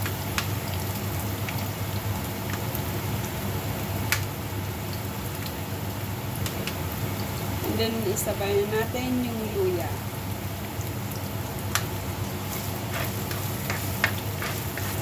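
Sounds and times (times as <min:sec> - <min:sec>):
onion sizzling in oil: 0:00.0 - 0:15.0.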